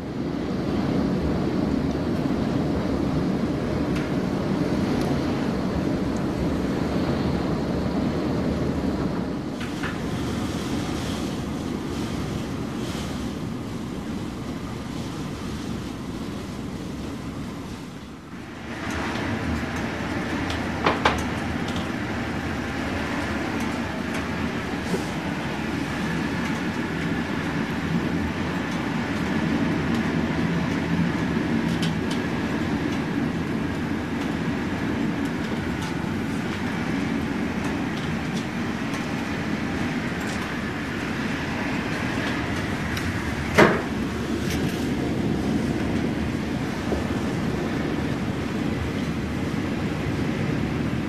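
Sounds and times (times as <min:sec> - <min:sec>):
blizzard wind rushing: 0:00.0 - 0:51.0.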